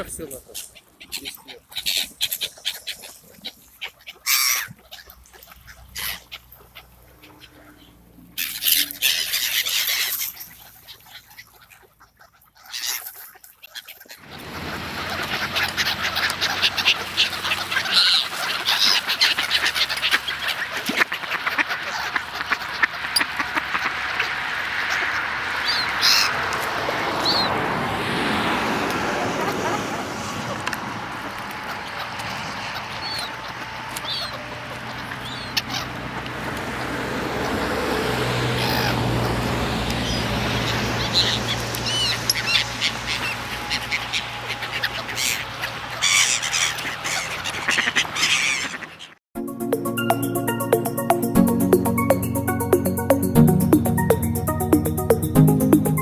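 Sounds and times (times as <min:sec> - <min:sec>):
waterfowl flock calling: 0:00.0 - 0:49.2.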